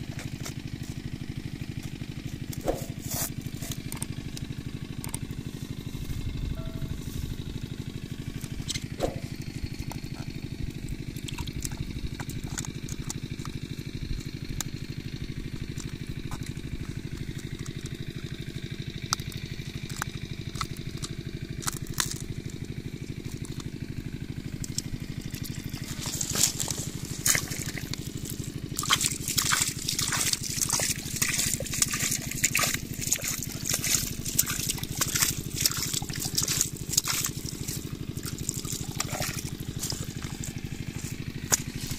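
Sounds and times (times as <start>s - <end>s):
low mechanical drone: 0.0s - 41.9s
water trickling and splashing: 7.6s - 41.9s.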